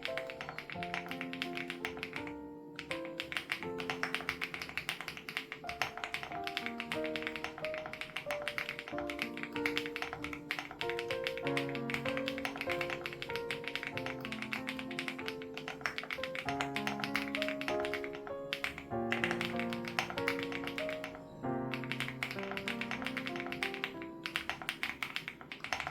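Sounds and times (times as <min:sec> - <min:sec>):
background music: 0:00.0 - 0:25.5
mechanical keyboard typing: 0:00.0 - 0:25.9.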